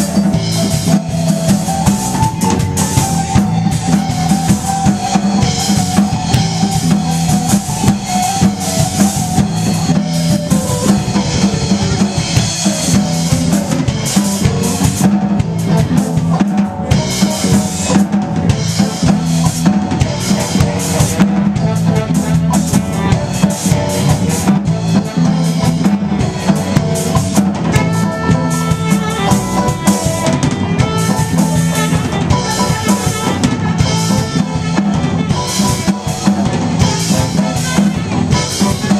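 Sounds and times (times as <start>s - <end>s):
drum kit beat: 0.0s - 38.9s
electric guitar lead lines: 0.0s - 38.9s
higher held notes: 0.0s - 38.9s.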